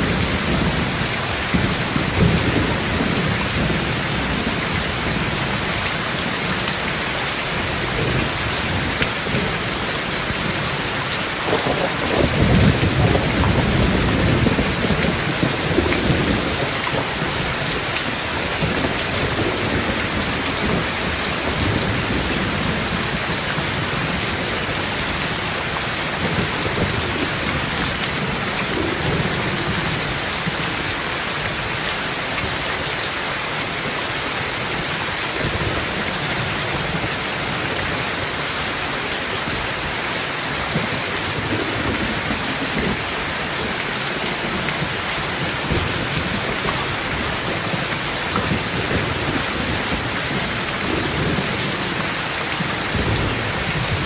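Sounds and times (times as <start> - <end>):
thunder rumbling: 0.0 - 30.6, 40.6 - 54.0
rain hissing: 0.0 - 54.0.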